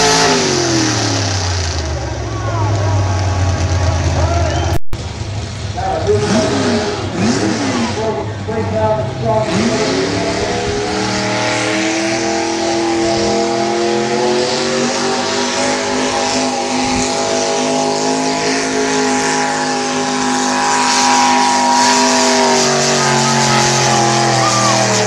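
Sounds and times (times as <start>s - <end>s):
tractor engine under heavy load: 0.0s - 25.0s.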